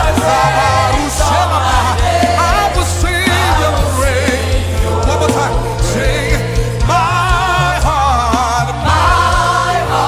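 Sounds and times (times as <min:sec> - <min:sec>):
band playing steady beat: 0:00.0 - 0:10.0
sustained singing: 0:00.0 - 0:10.0.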